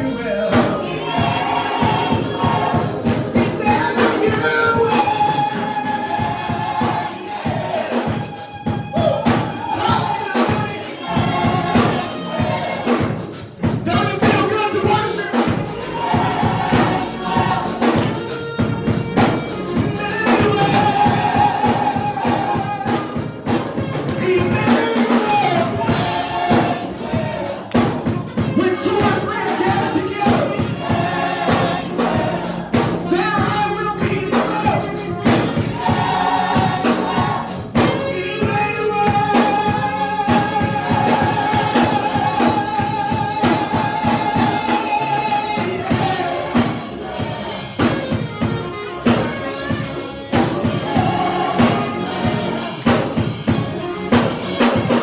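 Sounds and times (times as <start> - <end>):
choir singing: 0.0 - 55.0
drums: 0.0 - 55.0.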